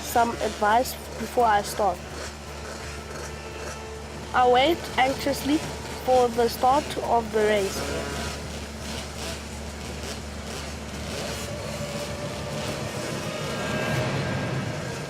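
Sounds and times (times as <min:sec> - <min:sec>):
small motorcycle engines running: 0:00.0 - 0:15.0.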